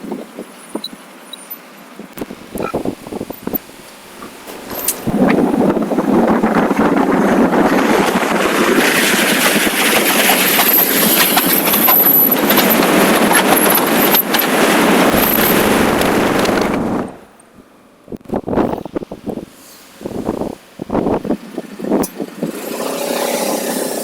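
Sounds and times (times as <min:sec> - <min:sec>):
road noise: 0:00.0 - 0:24.0
wind rushing on microphone: 0:02.0 - 0:23.8.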